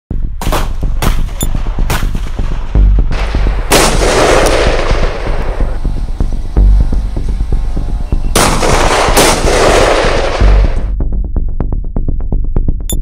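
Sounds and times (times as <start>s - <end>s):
background music beat: 0.1s - 13.0s.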